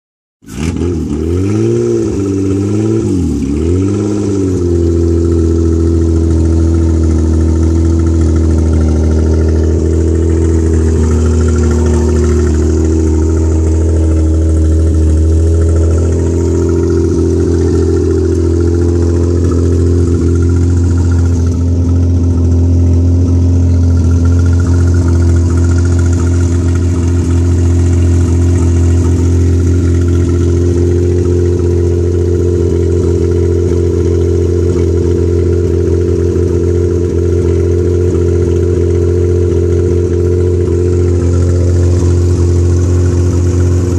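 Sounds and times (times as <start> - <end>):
car engine idling loudly: 0.4 - 43.9
car engine revving: 0.4 - 43.9.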